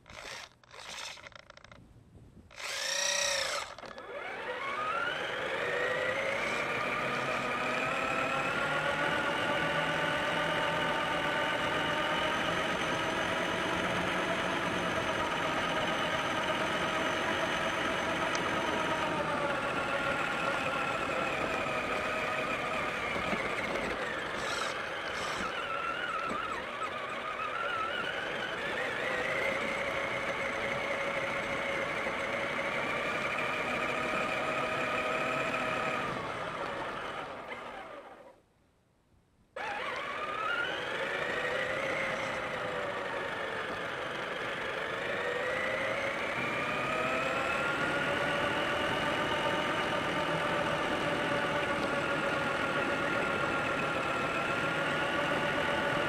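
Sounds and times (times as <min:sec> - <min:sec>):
electric motor whining: 0:00.0 - 0:01.8, 0:02.5 - 0:38.4, 0:39.6 - 0:56.0.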